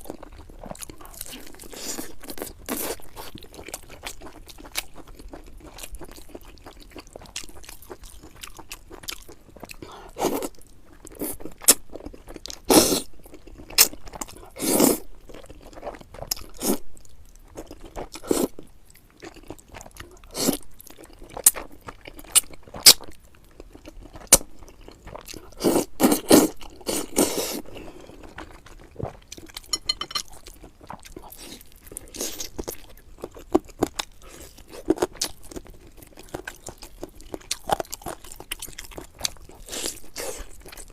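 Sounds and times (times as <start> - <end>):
person chewing and crunching: 0.0 - 40.9.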